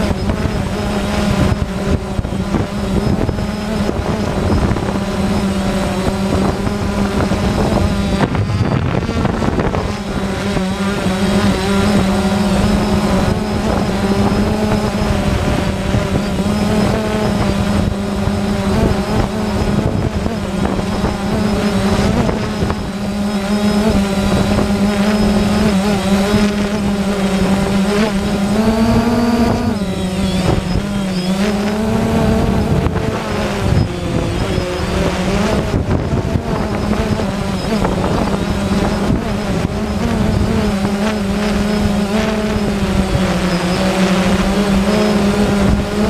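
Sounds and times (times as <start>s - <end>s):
drone propellers humming: 0.0s - 46.0s
wind rumble: 0.0s - 46.0s.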